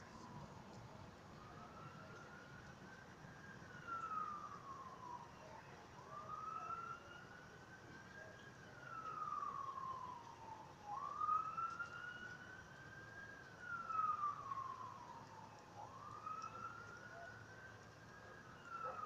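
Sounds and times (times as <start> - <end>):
siren wailing: 1.3 - 19.0.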